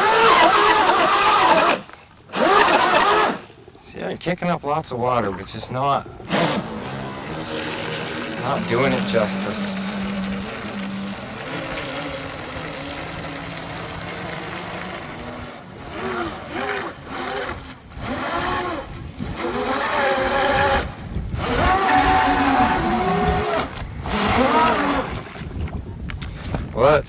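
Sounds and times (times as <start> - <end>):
boat motors whining: 0.0 - 26.1
propellers churning water: 0.0 - 26.8.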